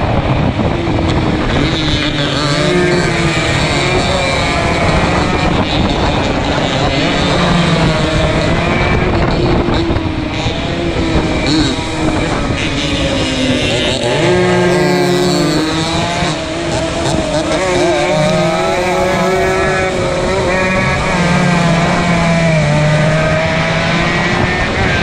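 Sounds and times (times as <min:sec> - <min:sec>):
racing motorcycle engines revving: 0:00.0 - 0:25.0.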